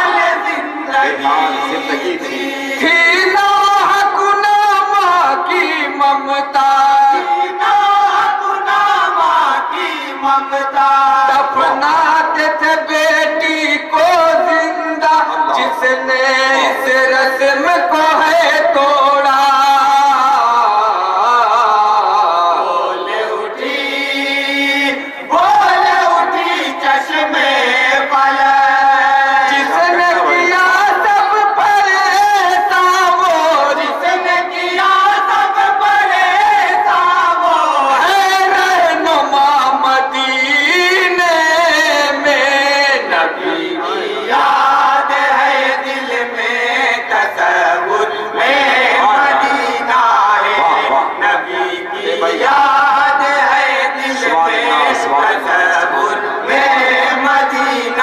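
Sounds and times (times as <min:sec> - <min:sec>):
men chanting together: 0:00.0 - 0:58.0
men singing in chorus: 0:00.0 - 0:58.0.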